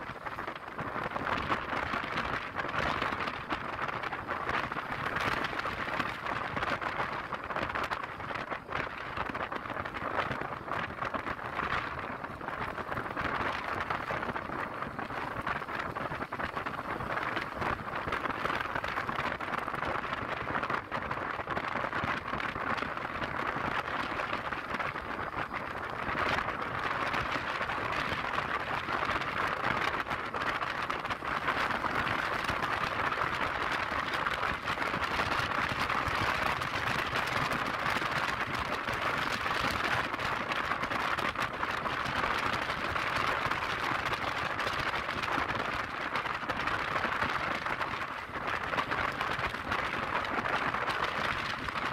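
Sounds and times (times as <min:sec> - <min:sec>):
road noise: 0:00.0 - 0:51.9
rushing wind: 0:00.0 - 0:51.9.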